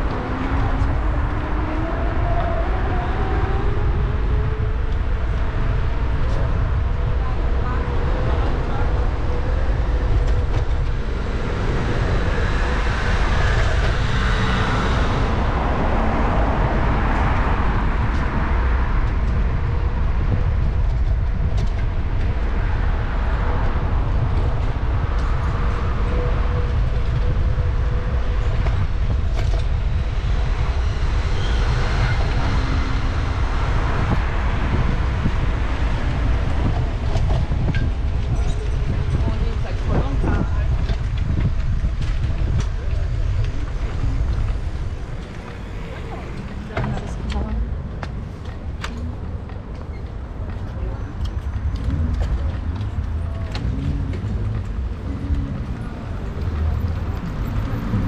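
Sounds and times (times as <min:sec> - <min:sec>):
bicycle rolling noise: 0:00.0 - 0:58.0
passing traffic: 0:00.0 - 0:58.0
wind rumble: 0:00.0 - 0:58.0.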